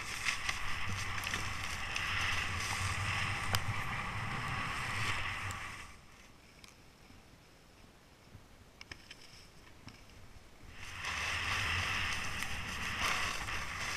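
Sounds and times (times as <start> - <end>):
skis sliding over snow: 0.0 - 7.2, 9.0 - 13.9.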